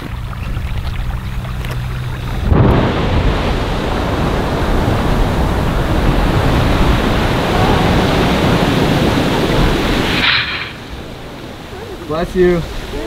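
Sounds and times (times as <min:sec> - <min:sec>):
geyser erupting: 0:01.2 - 0:13.0.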